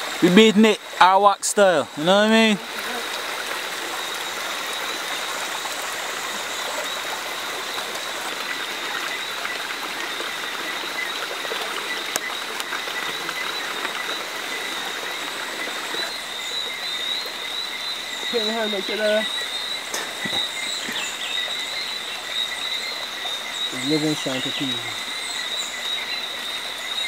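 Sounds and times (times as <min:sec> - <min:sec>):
forest ambience hiss: 0:00.0 - 0:27.0.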